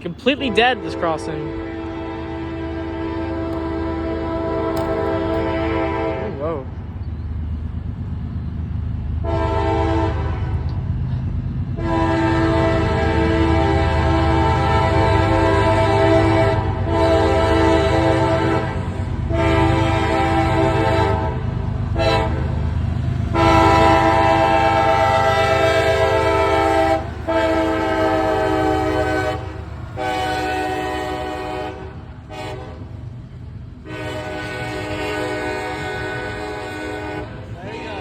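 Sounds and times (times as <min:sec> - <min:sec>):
train rumbling: 0:00.0 - 0:38.0
locomotive air horn blasts: 0:00.1 - 0:06.6, 0:09.2 - 0:10.7, 0:11.8 - 0:22.6, 0:23.3 - 0:33.0, 0:33.8 - 0:38.0.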